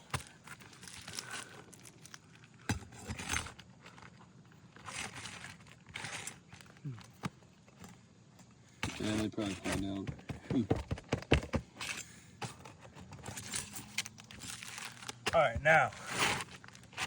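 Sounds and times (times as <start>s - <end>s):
prying tool scraping under shingle: 0.0s - 7.9s, 8.7s - 17.0s
shingle crackling and tearing: 0.0s - 8.0s, 8.8s - 17.0s.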